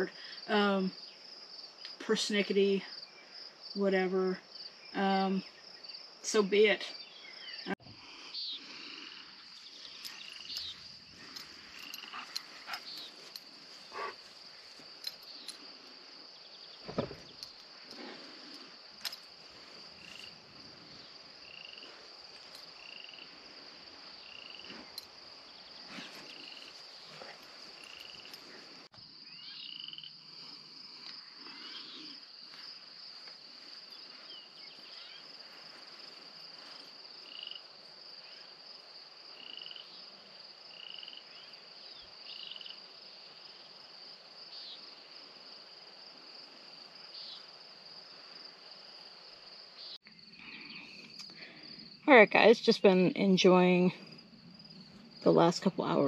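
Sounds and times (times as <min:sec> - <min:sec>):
crickets trilling: 0:00.0 - 0:56.0
short repeating insect call: 0:00.0 - 0:56.0.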